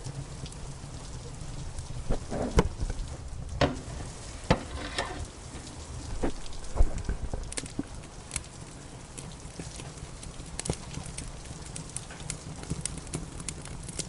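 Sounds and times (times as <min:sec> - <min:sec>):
rain: 0:00.0 - 0:14.0
wood fire crackling: 0:00.0 - 0:14.0
sharp pops of fire: 0:01.8 - 0:14.0.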